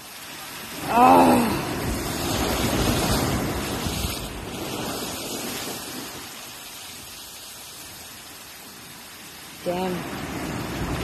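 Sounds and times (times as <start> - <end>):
waves breaking against rocks: 0.0 - 11.0.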